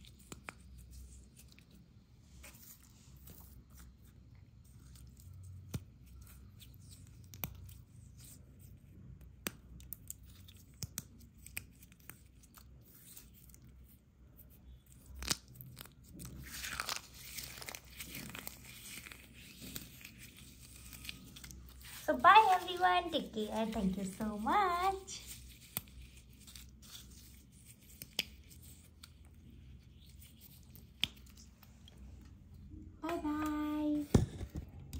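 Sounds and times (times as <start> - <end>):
wet squishing and crackling paste: 0.0 - 32.4.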